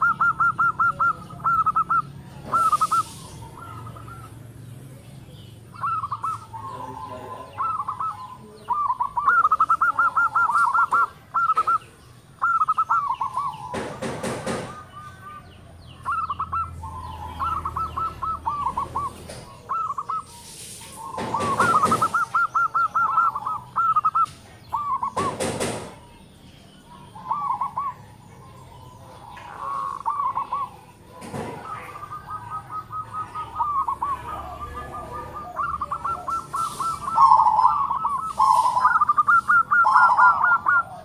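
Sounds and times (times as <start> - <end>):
doves cooing: 0.0 - 41.0.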